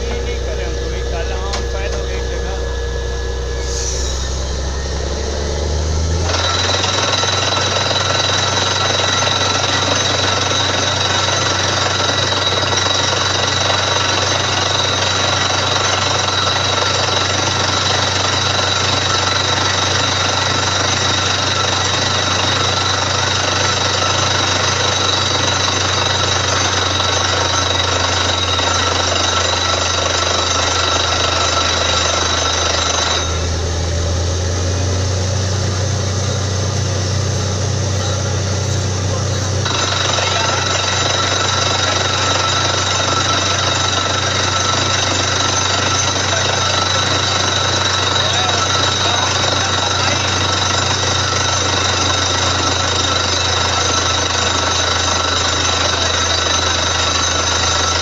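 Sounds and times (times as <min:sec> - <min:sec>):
drilling rig hammering rattle: 0:00.0 - 0:35.0, 0:36.6 - 0:58.0
deep engine drone: 0:00.0 - 0:58.0.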